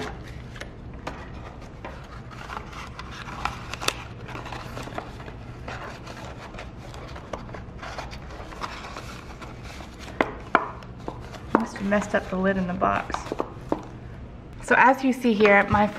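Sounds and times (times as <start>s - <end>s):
paper rustling and crinkling: 0.0s - 13.9s.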